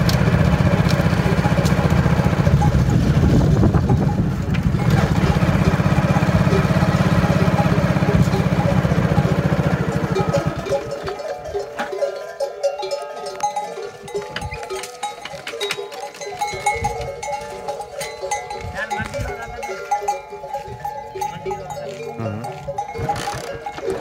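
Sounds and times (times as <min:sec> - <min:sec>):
camel neck bells clanking: 0:00.0 - 0:24.0.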